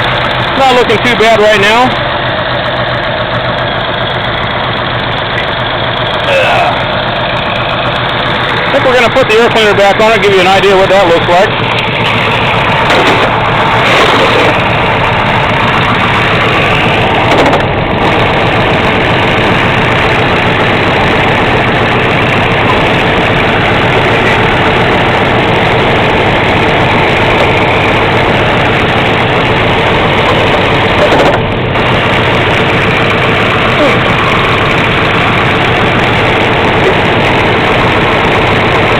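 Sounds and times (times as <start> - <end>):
car engine idling: 0.0 - 38.9
valve lifters rattling: 5.3 - 38.9.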